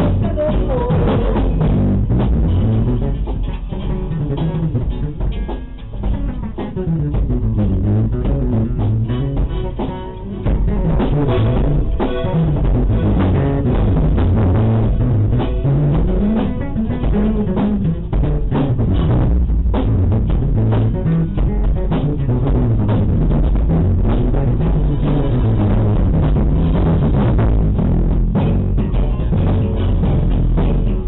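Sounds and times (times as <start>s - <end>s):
band playing a steady beat: 0.0s - 31.0s.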